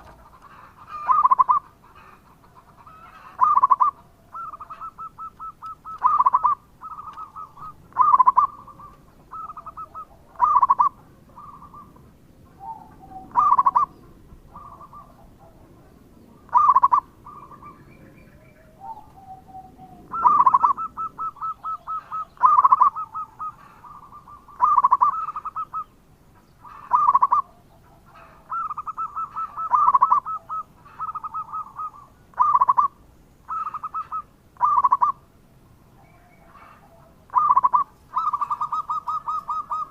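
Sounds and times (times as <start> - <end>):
dove cooing: 0.0 - 26.0, 26.6 - 35.3, 36.0 - 39.9.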